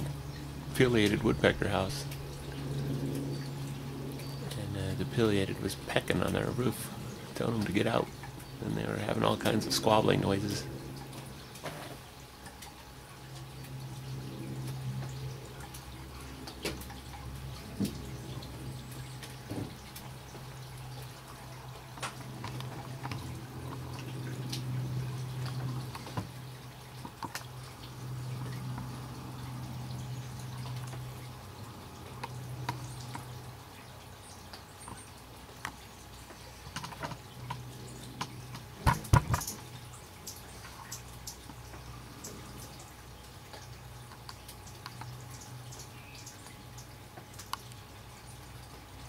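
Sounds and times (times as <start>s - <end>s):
low steady hum: 0.0s - 49.0s
water drips: 0.0s - 49.0s.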